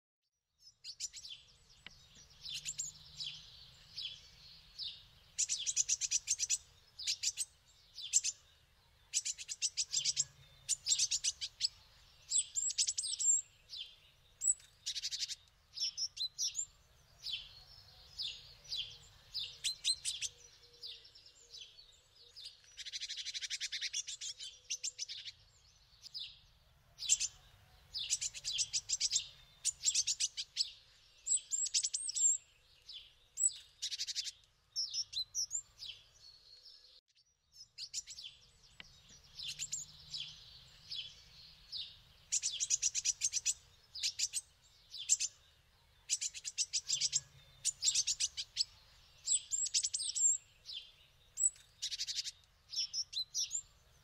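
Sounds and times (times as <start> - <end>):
songbirds chirping and trilling: 0.5 - 54.0.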